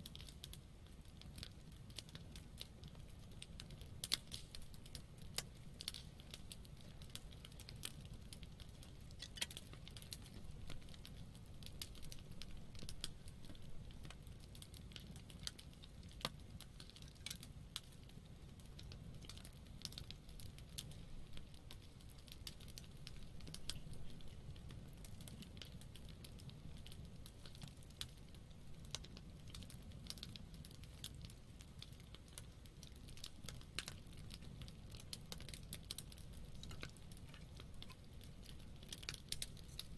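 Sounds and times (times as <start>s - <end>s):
campfire wood crackling and popping: 0.0s - 39.9s
low rumble of flames: 0.0s - 39.9s.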